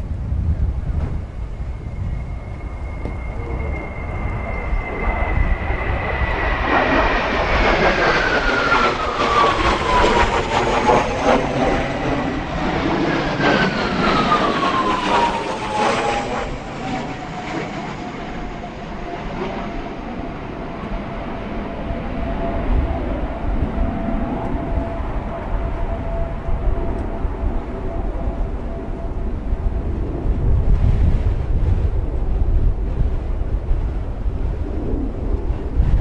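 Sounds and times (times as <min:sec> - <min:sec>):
jet aircraft flying past: 0:00.0 - 0:36.0.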